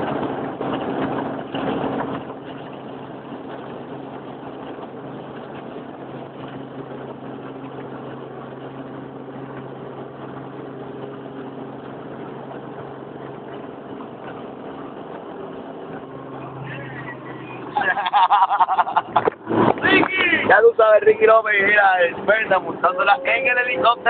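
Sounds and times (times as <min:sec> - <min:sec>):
helicopter droning: 0:00.0 - 0:24.0.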